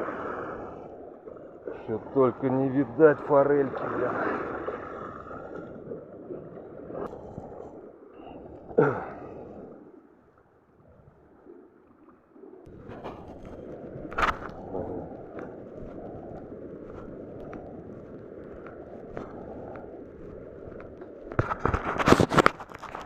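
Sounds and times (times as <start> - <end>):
seawater washing at shore: 0.0 - 10.0, 11.4 - 23.0.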